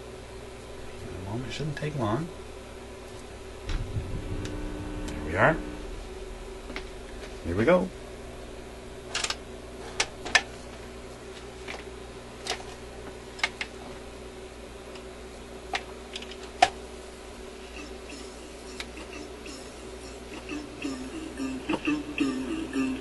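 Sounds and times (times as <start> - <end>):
record player hum: 0.0 - 23.0.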